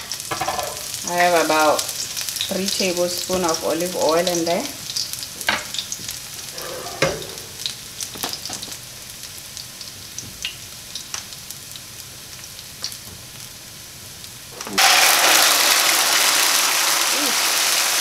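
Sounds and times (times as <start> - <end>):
garlic frying in oil: 0.0 - 6.6, 7.6 - 18.0
loud steady sizzle: 0.0 - 18.0.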